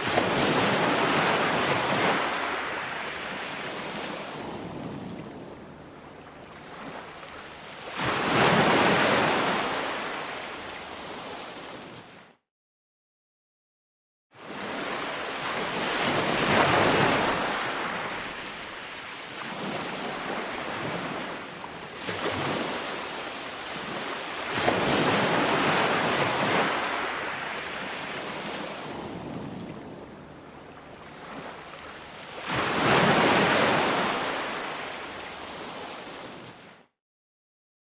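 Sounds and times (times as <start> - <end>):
sea waves breaking on shore: 0.0 - 12.4, 14.4 - 36.9.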